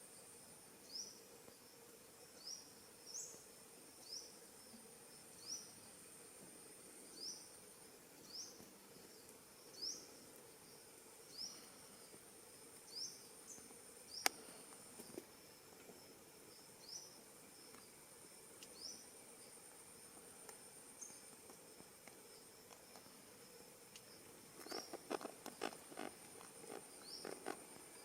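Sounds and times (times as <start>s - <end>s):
high-pitched insect whine: 0.0s - 28.0s.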